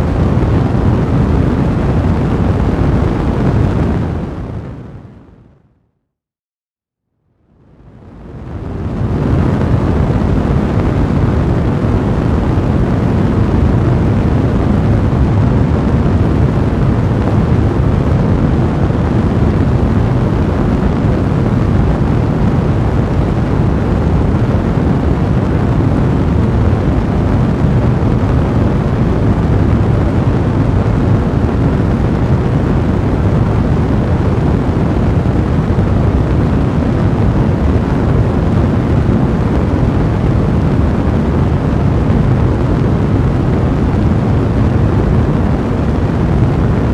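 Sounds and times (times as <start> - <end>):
fire rumbling in fireplace: 0.0 - 5.3, 7.6 - 46.9.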